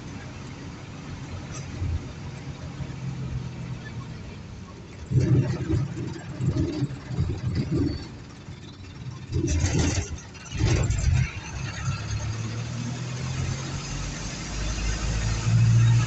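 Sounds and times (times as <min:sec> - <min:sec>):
bus engine running: 0:00.0 - 0:16.0
road noise: 0:00.0 - 0:16.0.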